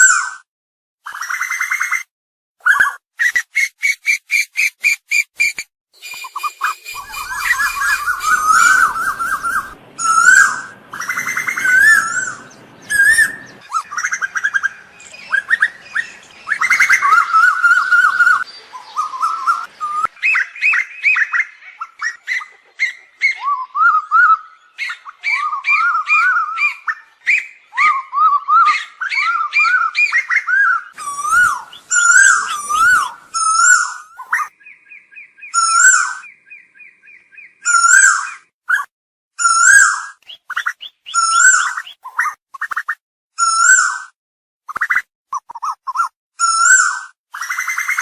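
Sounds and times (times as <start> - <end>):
bird calling with whistled notes: 1.1 - 48.0.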